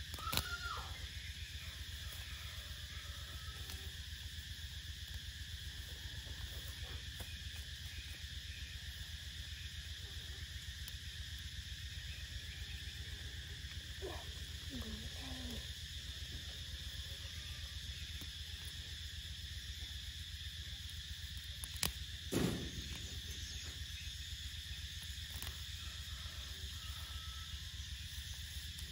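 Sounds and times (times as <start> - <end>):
insect chorus: 0.0 - 28.9.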